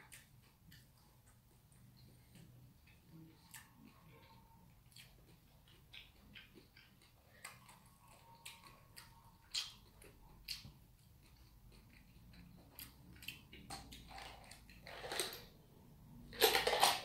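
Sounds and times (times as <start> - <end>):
person chewing with mouth clicks: 0.0 - 14.8.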